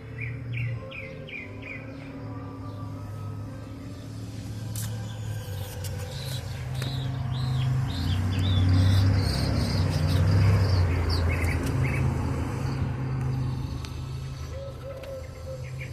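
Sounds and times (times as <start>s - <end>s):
small birds chirping: 0.0s - 15.9s
steady low hum: 0.0s - 15.9s.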